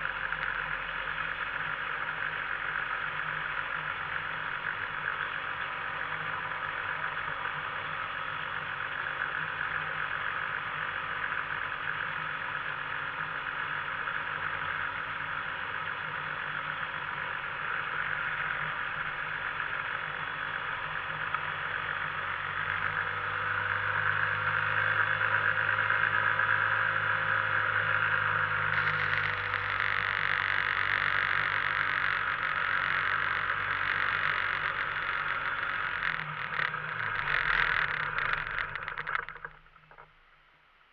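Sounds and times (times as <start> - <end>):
two-stroke engine idling: 0.0 - 40.3.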